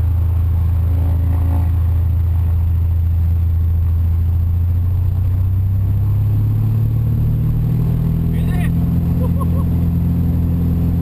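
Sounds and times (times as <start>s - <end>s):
airplane engine drone: 0.0s - 11.0s.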